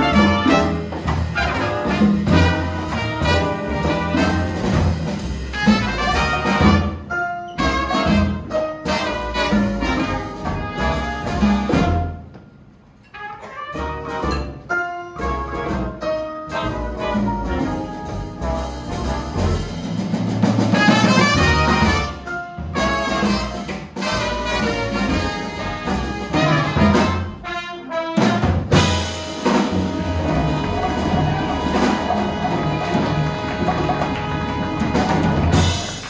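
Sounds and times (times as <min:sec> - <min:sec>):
brass band playing: 0:00.0 - 0:12.4, 0:13.0 - 0:36.0.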